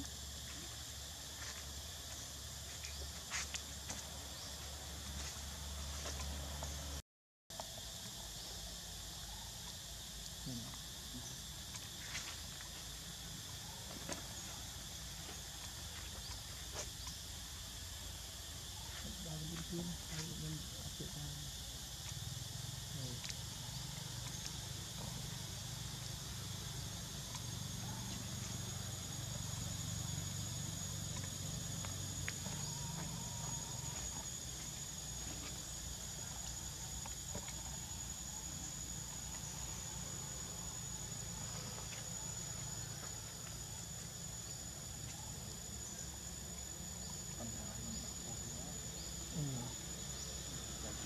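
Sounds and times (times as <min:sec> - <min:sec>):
high-pitched insect whine: 0:00.0 - 0:51.0.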